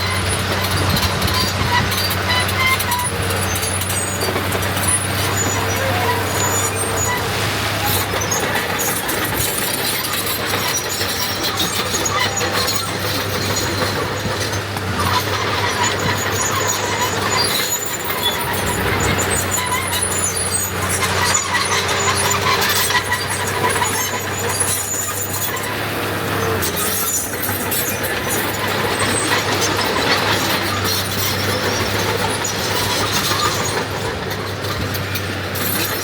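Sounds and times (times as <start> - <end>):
high metallic squeals: 0.0 - 34.9
heavy diesel machinery running: 0.0 - 36.0.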